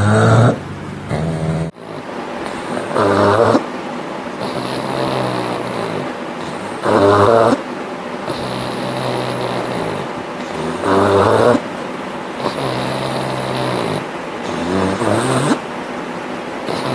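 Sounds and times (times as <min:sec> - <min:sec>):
dog snoring: 0:00.0 - 0:03.8, 0:04.4 - 0:15.8, 0:16.6 - 0:16.9.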